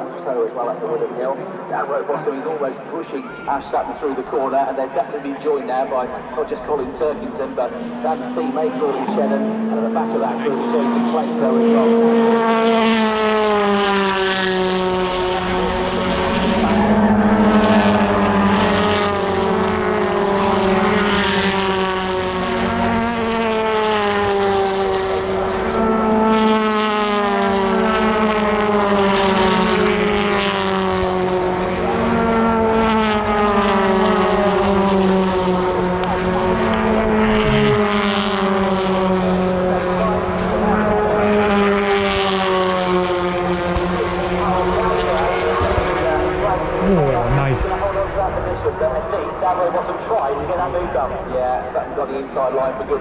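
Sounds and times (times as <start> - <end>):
race cars passing at speed: 0.0 - 53.0.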